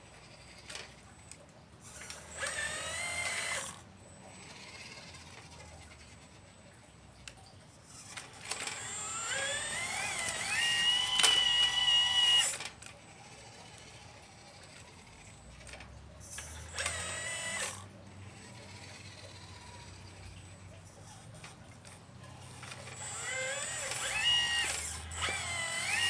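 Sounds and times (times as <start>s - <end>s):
model excavator motors whining: 0.0s - 26.0s.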